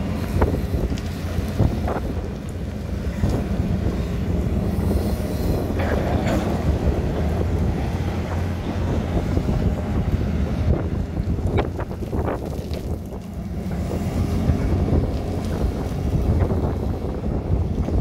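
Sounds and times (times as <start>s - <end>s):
excavator diesel engine running: 0.0s - 18.0s
soil and stones scraping: 0.0s - 18.0s.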